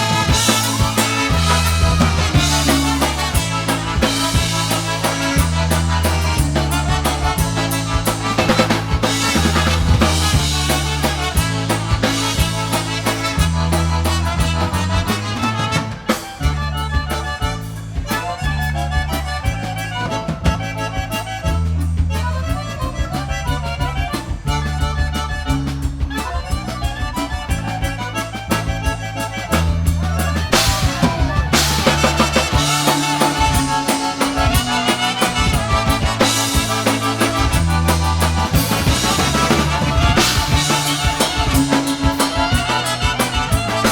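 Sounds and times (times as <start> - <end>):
accordion: 0.0 - 43.9
drum kit: 0.0 - 43.9
polka band playing: 0.0 - 43.9
pulsing bass line: 0.0 - 43.9.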